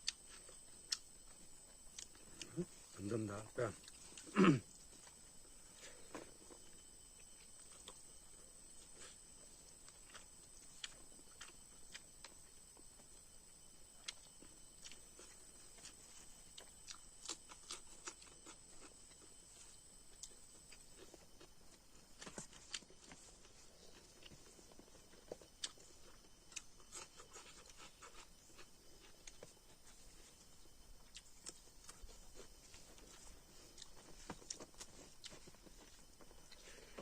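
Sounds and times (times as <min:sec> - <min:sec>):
person chewing: 0:00.0 - 0:05.2, 0:06.0 - 0:08.1, 0:08.8 - 0:12.4, 0:14.0 - 0:30.1, 0:31.0 - 0:37.0
faint high whine: 0:00.0 - 0:37.0.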